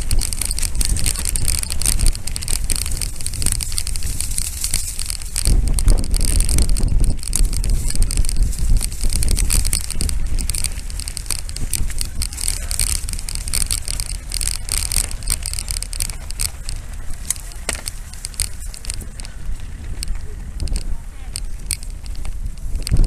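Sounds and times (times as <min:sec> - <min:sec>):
bike rattling and clicking: 0:00.0 - 0:23.0
tyres crunching on dirt: 0:00.0 - 0:23.0
wind rumble on microphone: 0:00.0 - 0:23.0.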